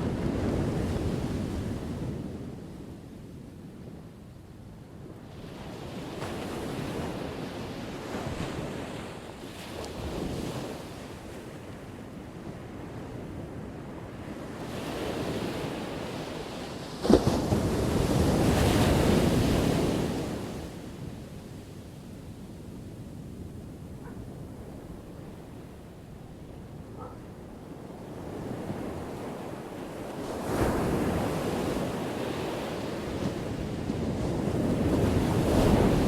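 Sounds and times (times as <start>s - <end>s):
waves breaking on shore: 5.2s - 12.9s, 13.7s - 36.0s.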